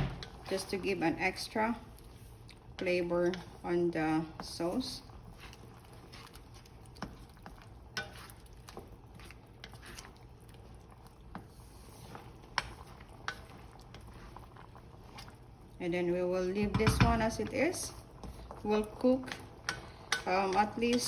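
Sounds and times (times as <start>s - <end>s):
utensil stirring sauce in pot: 0.0s - 21.0s.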